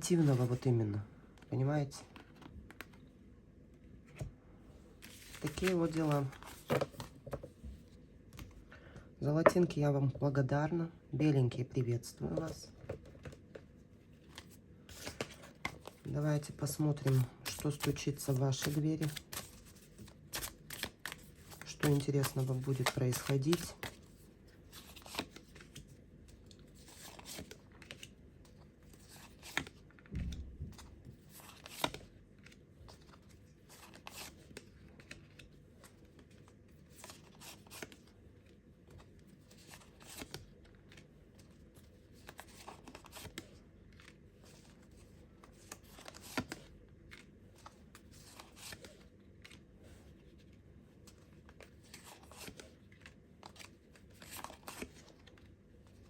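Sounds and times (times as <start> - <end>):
cards being shuffled: 2.0 - 3.1, 5.0 - 8.6, 12.2 - 56.0.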